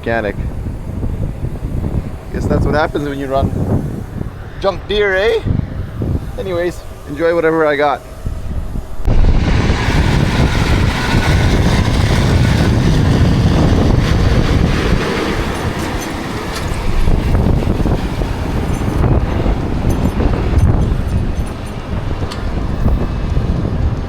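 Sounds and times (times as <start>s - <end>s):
machinery running: 0.0s - 24.0s
wind buffeting microphone: 0.0s - 24.0s.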